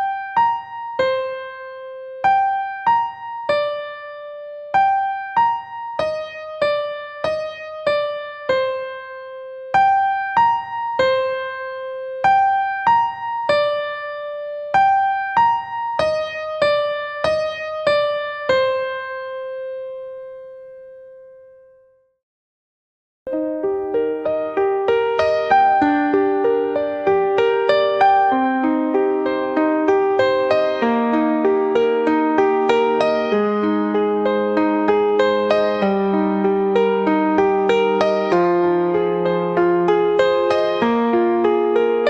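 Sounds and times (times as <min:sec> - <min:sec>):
gentle electric piano melody: 0:00.0 - 0:21.9, 0:23.3 - 0:42.0.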